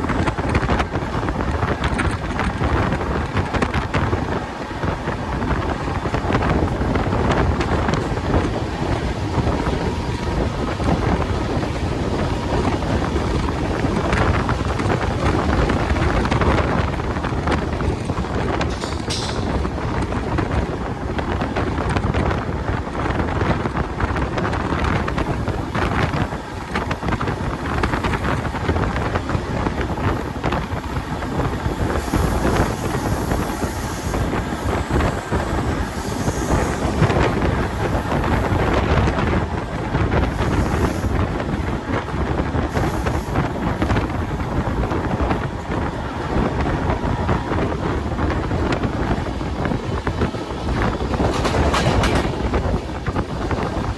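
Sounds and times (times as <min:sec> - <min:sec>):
train rushing on rails: 0:00.0 - 0:53.9
wind buffeting microphone: 0:00.0 - 0:53.9.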